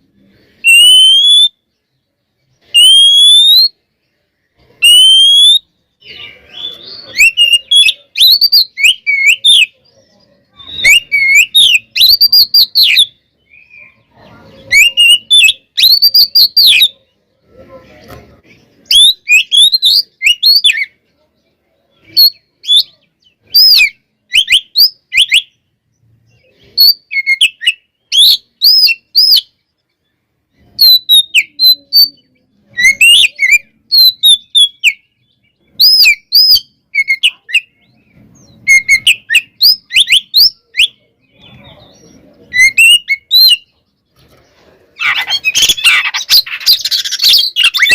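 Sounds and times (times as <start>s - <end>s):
bird singing whistled notes: 0.1s - 17.1s, 18.6s - 21.0s, 21.8s - 44.1s, 45.0s - 47.9s.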